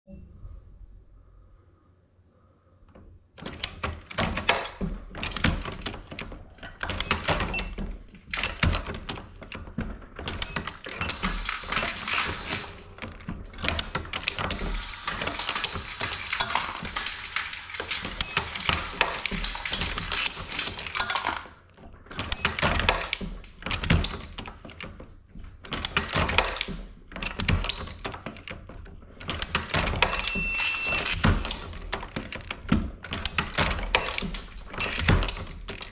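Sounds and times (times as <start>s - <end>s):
reloading press metallic clanks: 3.4s - 25.0s, 25.6s - 35.9s
brass cases rattling: 3.4s - 35.9s.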